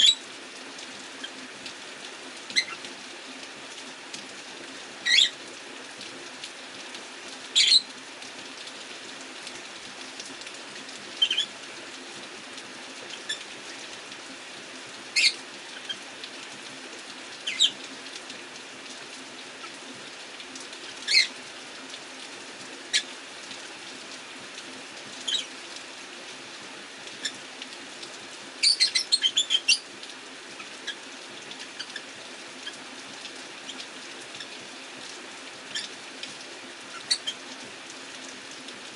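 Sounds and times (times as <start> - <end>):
rain hissing: 0.0 - 38.9.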